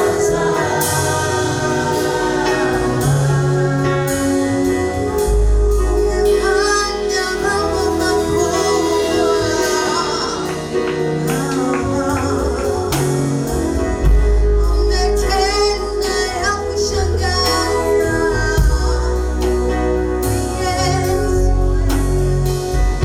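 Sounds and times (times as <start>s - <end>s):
bass: 0.0s - 23.0s
drums: 0.0s - 23.0s
group singing: 0.0s - 23.0s.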